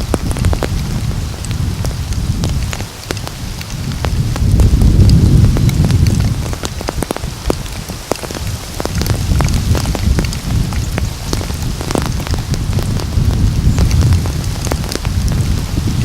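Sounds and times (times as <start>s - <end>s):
rain falling: 0.0s - 16.0s
raindrops striking close by: 0.0s - 16.0s.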